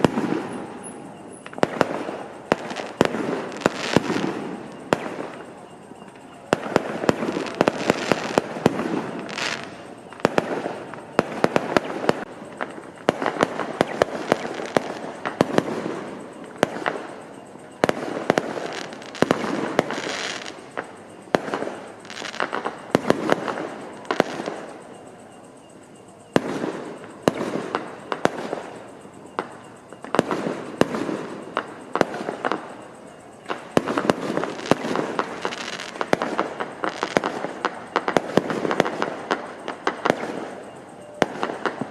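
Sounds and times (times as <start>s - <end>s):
fireworks bangs: 0.0s - 25.0s, 26.3s - 41.9s
firecrackers crackling: 0.0s - 41.9s.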